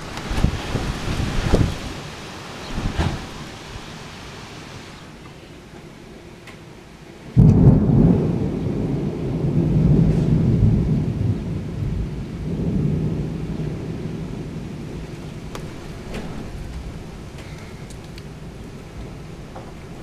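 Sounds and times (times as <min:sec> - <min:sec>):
thunder clap and rumble: 0:00.0 - 0:03.9, 0:07.4 - 0:20.0
heavy rain hiss: 0:00.0 - 0:20.0.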